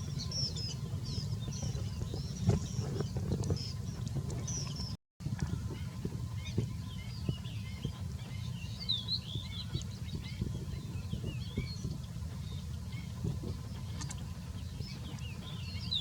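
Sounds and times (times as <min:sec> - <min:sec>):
low rumble: 0:00.0 - 0:16.0
small birds chirping: 0:00.0 - 0:16.0.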